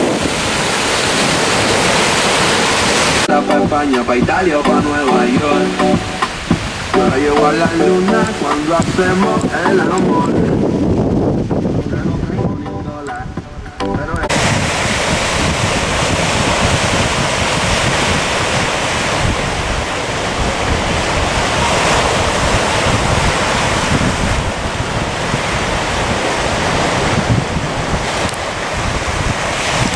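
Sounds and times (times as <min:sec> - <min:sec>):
wind buffeting microphone: 0:00.0 - 0:02.0, 0:06.0 - 0:29.9
waves washing over stones: 0:00.0 - 0:03.3, 0:06.0 - 0:11.9, 0:14.3 - 0:29.9.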